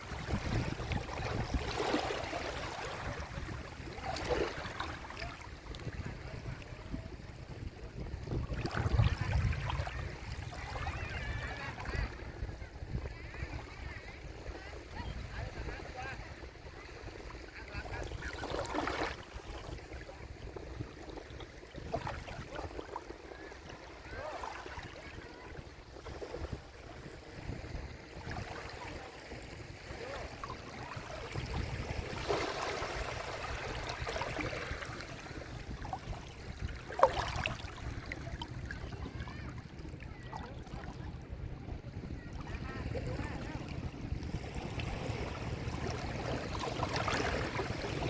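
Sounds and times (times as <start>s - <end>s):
small waves washing onto shore: 0.0s - 48.0s.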